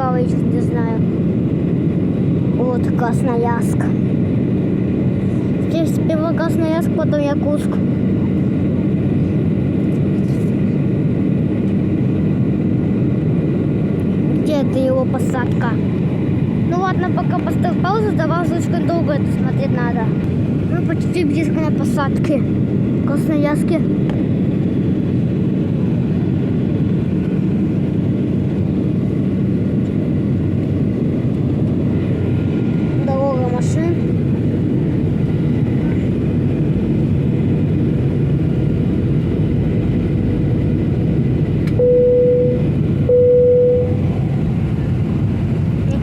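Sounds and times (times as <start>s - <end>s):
airliner cabin engine rumble: 0.0s - 46.0s.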